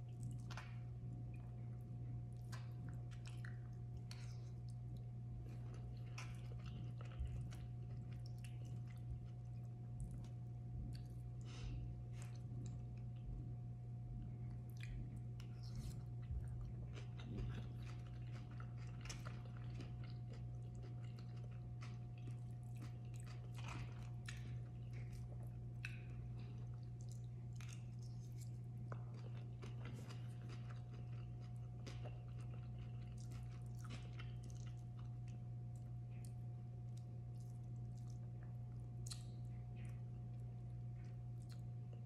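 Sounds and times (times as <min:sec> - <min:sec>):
low hum: 0:00.0 - 0:42.0
chewing mouth clicks: 0:02.4 - 0:11.2, 0:14.6 - 0:36.4, 0:37.0 - 0:40.0.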